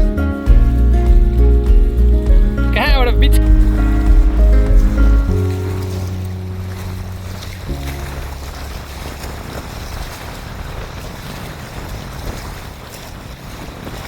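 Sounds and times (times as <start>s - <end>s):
choppy water washing: 0.0s - 14.0s
wind buffeting microphone: 0.0s - 14.0s.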